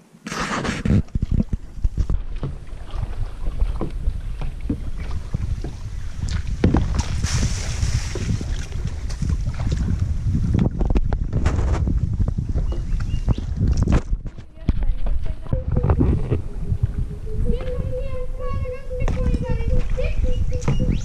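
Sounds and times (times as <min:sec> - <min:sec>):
paddle splashes and knocks: 0:00.3 - 0:21.0
wind rumbling on microphone: 0:00.3 - 0:21.0.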